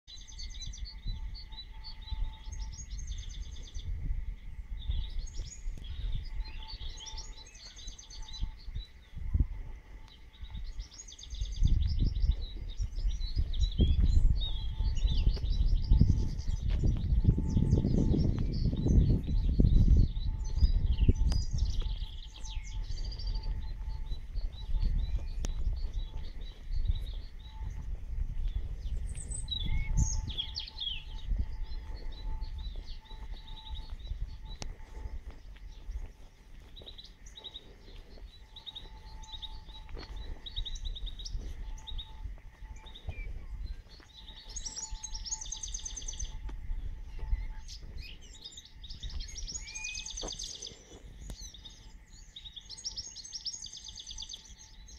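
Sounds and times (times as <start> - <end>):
birds singing and chirping: 0.1 - 54.9
low rumbling noise: 0.2 - 52.4.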